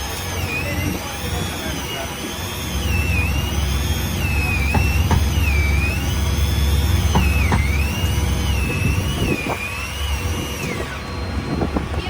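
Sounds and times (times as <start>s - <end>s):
boat engine rumbling: 0.0s - 12.0s
high whine rising and falling: 0.0s - 12.0s.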